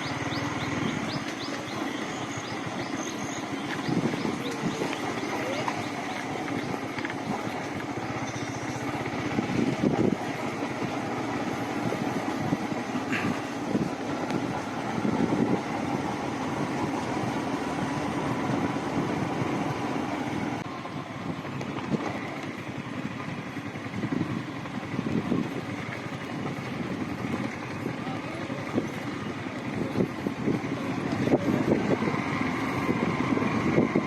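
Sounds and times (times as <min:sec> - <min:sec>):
motorcycle engine running: 0:00.0 - 0:34.0
road noise: 0:00.0 - 0:34.0.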